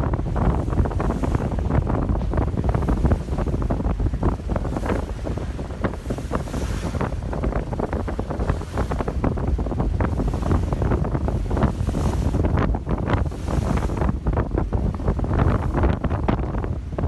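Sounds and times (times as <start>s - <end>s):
choppy water rushing: 0.0s - 17.0s
wind buffeting the microphone: 0.0s - 17.0s.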